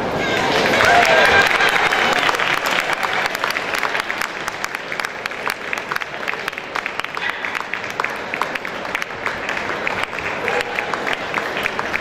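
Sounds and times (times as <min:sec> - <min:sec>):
crowd applauding: 0:00.1 - 0:12.0.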